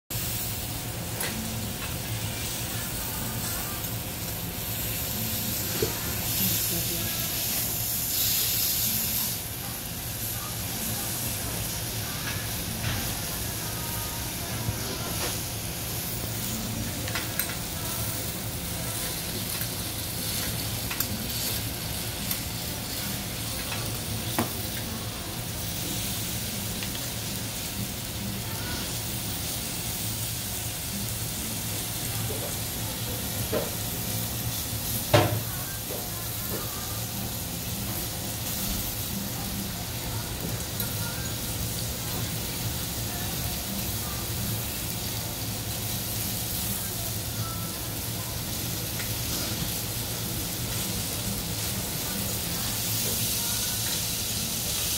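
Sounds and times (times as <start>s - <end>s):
meat sizzling on a griddle: 0.1s - 54.9s.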